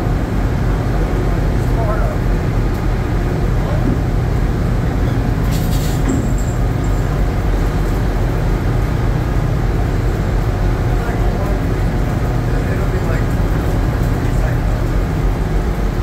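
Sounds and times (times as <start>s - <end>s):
ship engines and deck machinery: 0.0s - 16.0s.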